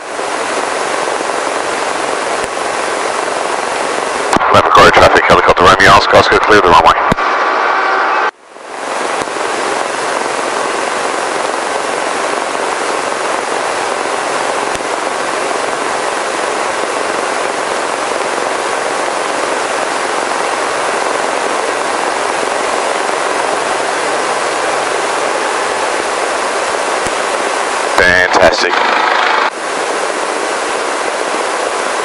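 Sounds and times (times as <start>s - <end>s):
helicopter cabin noise: 0.0s - 32.0s.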